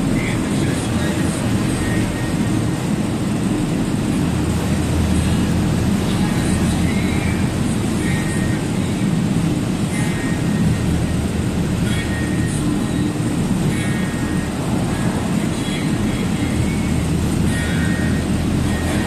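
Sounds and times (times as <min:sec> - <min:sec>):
truck engine and tyre drone: 0:00.0 - 0:19.0.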